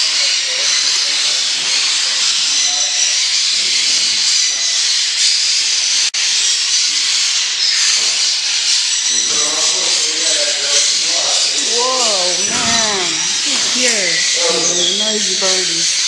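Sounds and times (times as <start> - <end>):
parrots chattering and chirping: 0.0 - 16.0.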